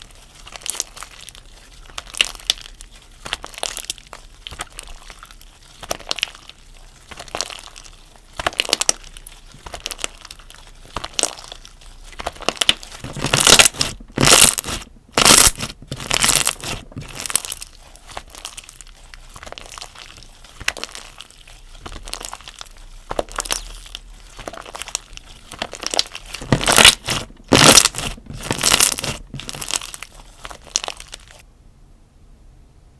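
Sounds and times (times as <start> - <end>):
slime squelching and crackling: 0.0 - 31.4.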